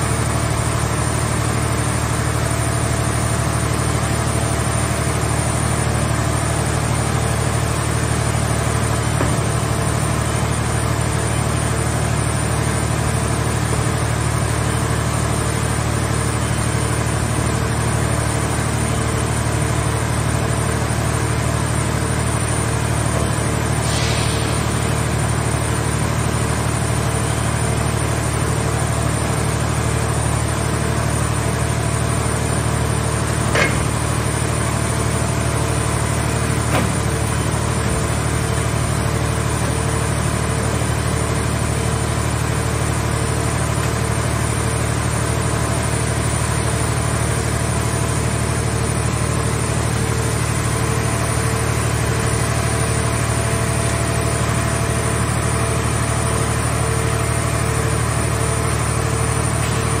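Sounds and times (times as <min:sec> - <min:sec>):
hydraulic power unit hum: 0:00.0 - 1:00.0.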